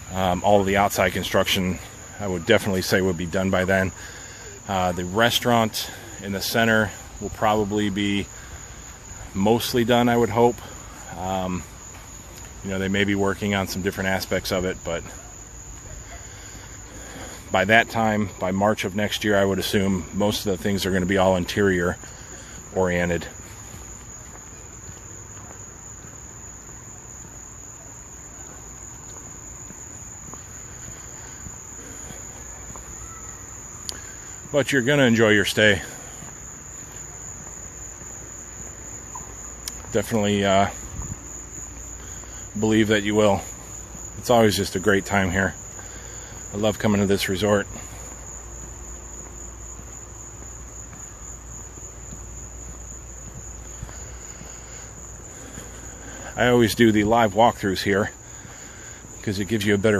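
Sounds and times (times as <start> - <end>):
night insects trilling: 0.0 - 59.9.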